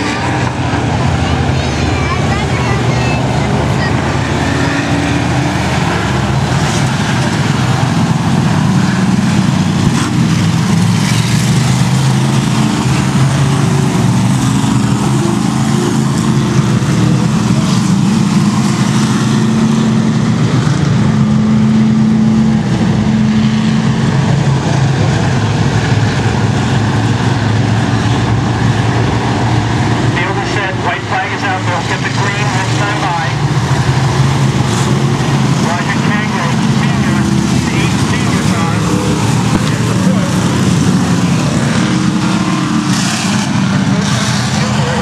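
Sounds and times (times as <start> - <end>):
race car engines droning: 0.0 - 45.0.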